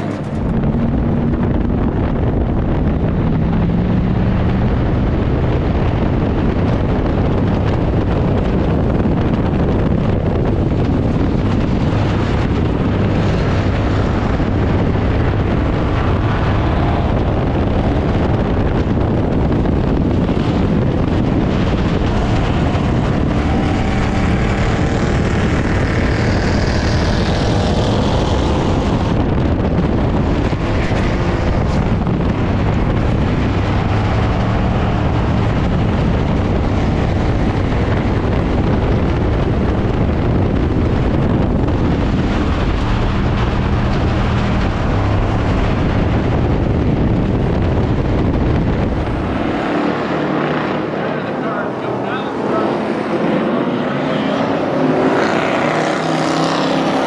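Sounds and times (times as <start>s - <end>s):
race car engine running hard: 0.0s - 57.0s
wind rush over microphone: 0.0s - 57.0s.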